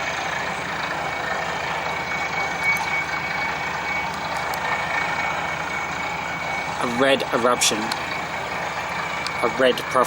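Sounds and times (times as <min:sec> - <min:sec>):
drilling rig machine noise: 0:00.0 - 0:10.0
faint high whine: 0:00.0 - 0:10.0.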